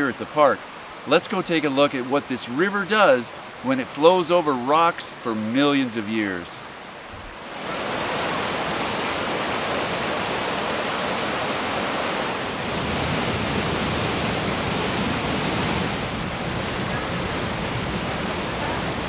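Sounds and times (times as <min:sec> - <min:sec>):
creek rushing over rocks: 0:00.0 - 0:19.0.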